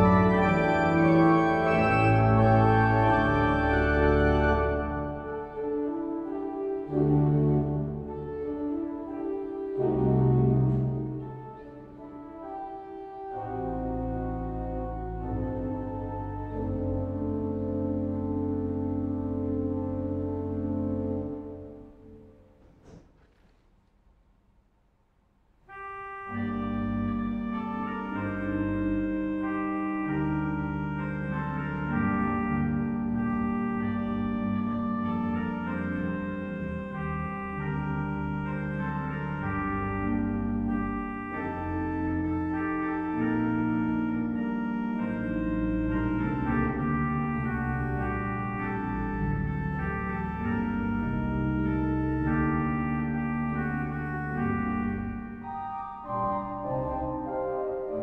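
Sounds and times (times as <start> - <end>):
pipe organ playing: 0.0 - 23.0, 25.7 - 58.0.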